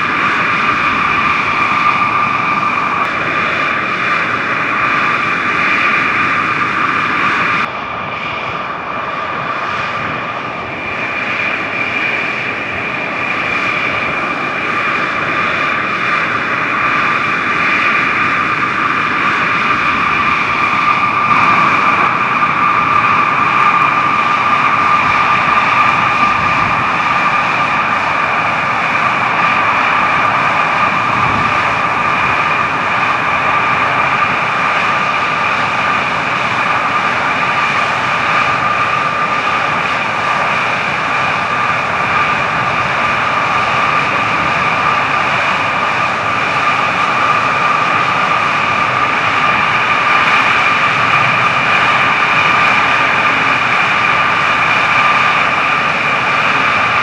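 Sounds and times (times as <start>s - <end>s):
jet engine idling whine: 0.0s - 57.0s.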